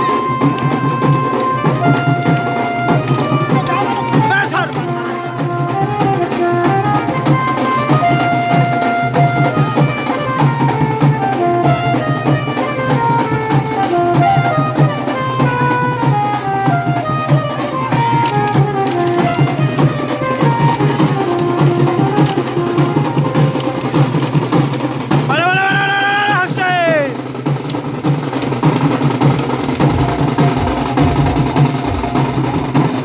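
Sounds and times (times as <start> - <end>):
fast continuous drumming: 0.0 - 33.0.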